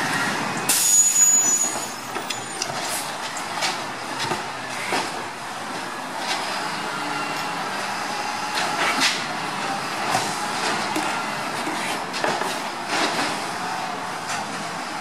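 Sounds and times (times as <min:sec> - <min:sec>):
garbage truck running: 0:00.0 - 0:15.0.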